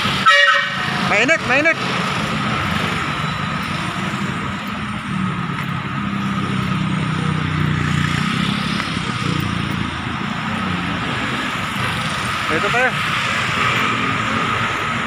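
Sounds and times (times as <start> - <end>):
motorcycles and cars driving past: 0.8 - 15.0.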